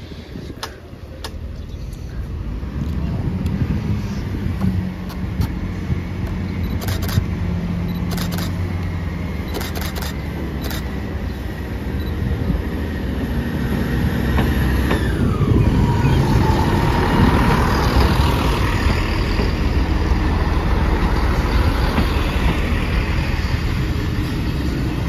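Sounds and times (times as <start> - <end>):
diesel train rumbling on rails: 0.0 - 25.0.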